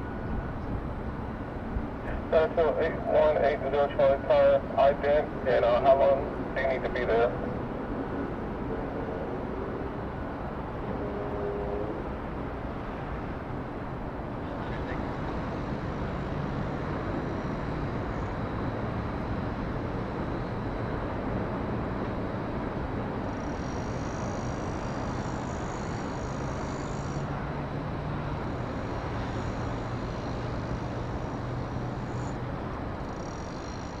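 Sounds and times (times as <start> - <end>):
jet aircraft rumble: 0.0 - 32.0
faint high whine: 0.0 - 34.0
road traffic: 0.0 - 34.0.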